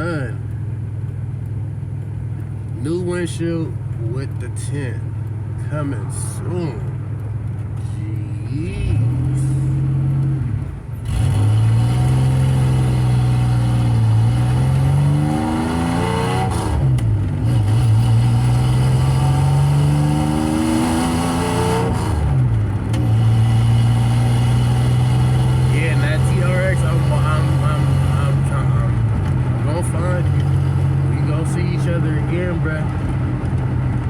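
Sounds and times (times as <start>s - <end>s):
car engine accelerating through gears: 0.0s - 34.0s.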